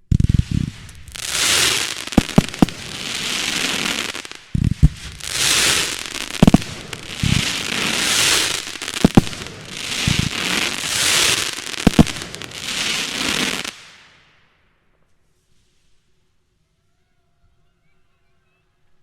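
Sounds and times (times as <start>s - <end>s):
crackling hiss of fireworks: 0.0s - 14.6s, 15.2s - 16.7s.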